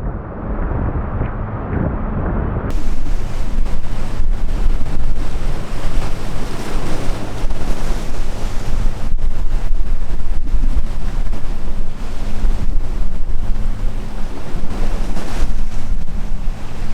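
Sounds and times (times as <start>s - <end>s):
muffled rumble: 0.0s - 16.9s
sea waves roaring: 0.0s - 16.9s
wind buffeting microphone: 0.0s - 16.9s.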